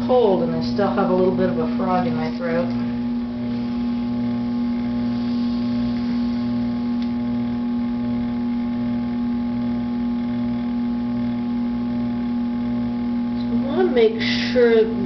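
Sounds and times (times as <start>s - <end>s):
potter's wheel motor hum: 0.0s - 15.0s.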